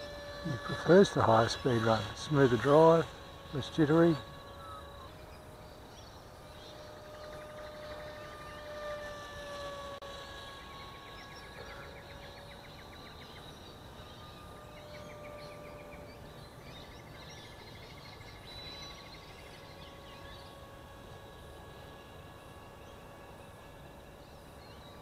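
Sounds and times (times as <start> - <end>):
birds chirping: 0.0 - 25.0
distant model plane motor whine: 0.0 - 25.0.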